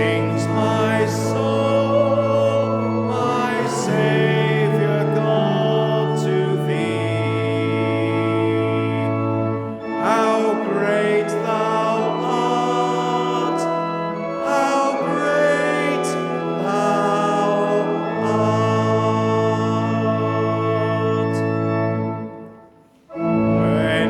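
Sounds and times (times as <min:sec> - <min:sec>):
congregation singing a hymn: 0:00.0 - 0:24.0
organ chords: 0:00.0 - 0:24.0.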